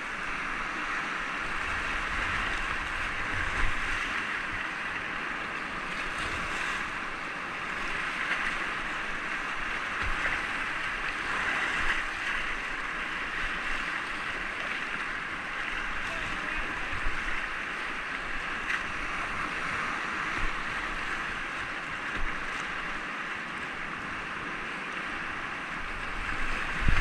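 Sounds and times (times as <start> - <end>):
water splashes: 0.0 - 27.0
whitewater rapids roaring: 0.0 - 27.0.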